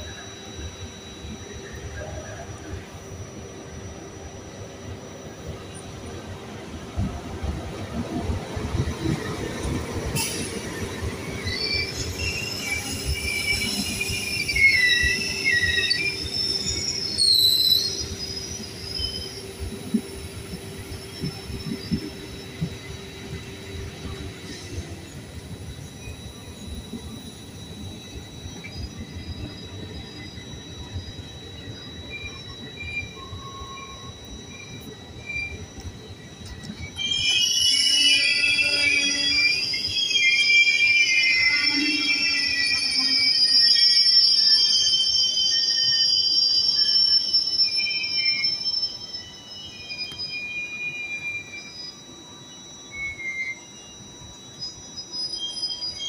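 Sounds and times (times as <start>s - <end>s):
train wheels squealing: 0.0s - 56.0s.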